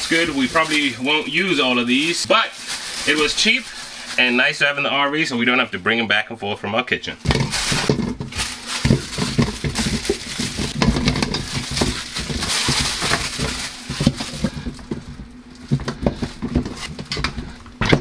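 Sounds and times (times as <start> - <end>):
plastic packaging crinkling: 0.0 - 4.7, 7.2 - 18.0.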